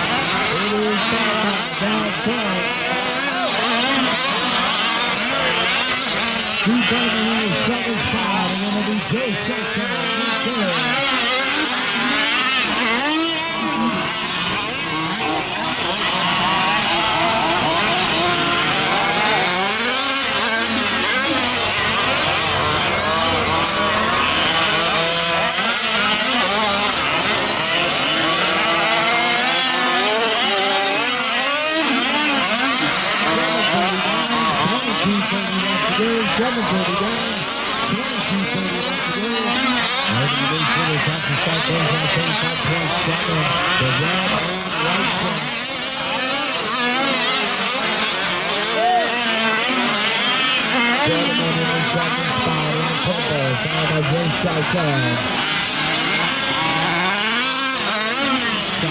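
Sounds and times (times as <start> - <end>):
small two-stroke engines revving: 0.0 - 58.9.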